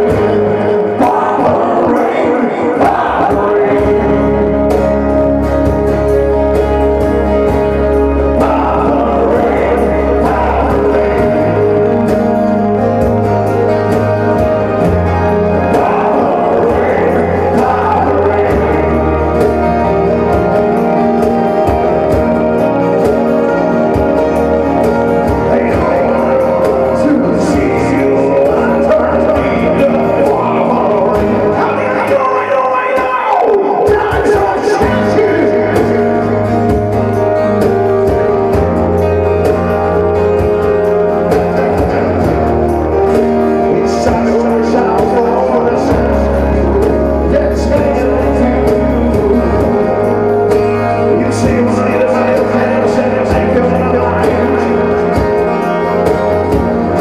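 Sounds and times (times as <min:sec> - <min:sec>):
keyboard: 0:00.0 - 0:57.0
person singing: 0:00.0 - 0:57.0
strummed acoustic guitars: 0:00.0 - 0:57.0.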